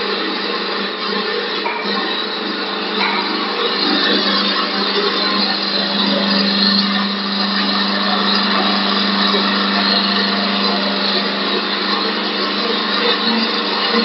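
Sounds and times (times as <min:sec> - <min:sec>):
spindle motor hum: 0:00.0 - 0:14.0.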